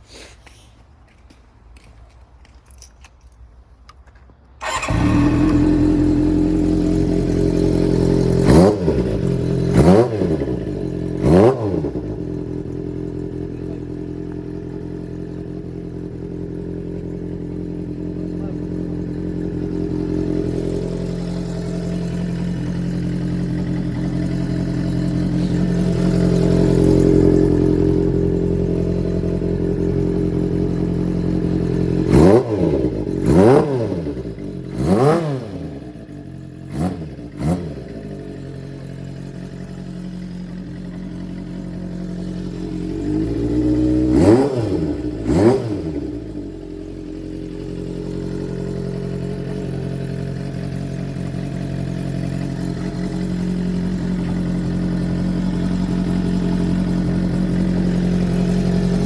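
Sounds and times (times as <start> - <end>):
engine revving: 4.6 - 59.0
motorcycle engine idling: 4.6 - 59.0.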